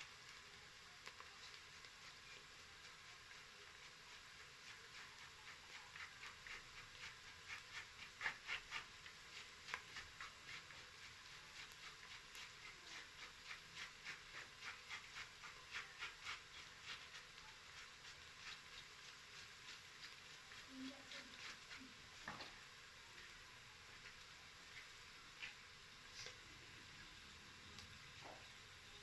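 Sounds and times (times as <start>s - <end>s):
onions frying crackling: 0.0s - 29.0s.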